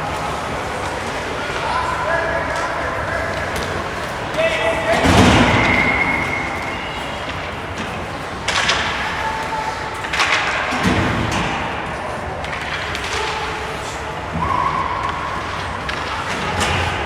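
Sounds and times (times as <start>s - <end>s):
rink and crowd din: 0.0s - 17.0s.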